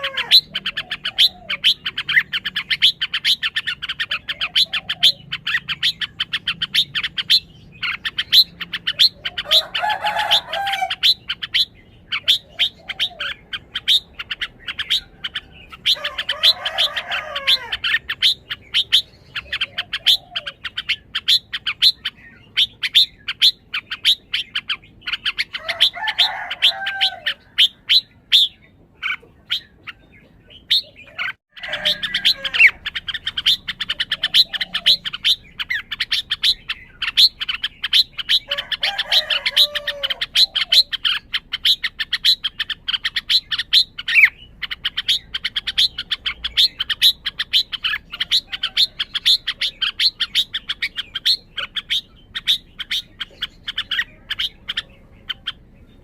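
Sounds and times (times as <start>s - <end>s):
bird sharp high chirps: 0.0s - 56.0s
bird warbled phrases: 0.0s - 56.0s.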